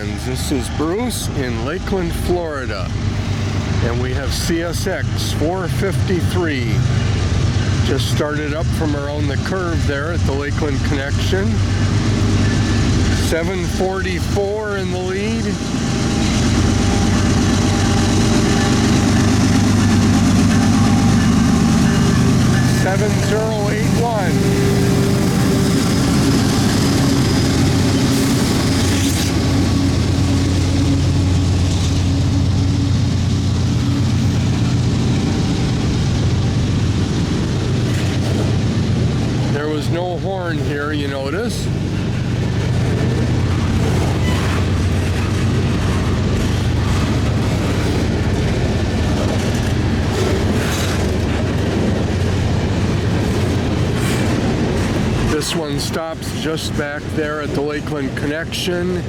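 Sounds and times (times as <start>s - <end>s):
diesel locomotive engine drone: 0.0s - 59.0s
train wheels rumbling on rails: 0.0s - 59.0s.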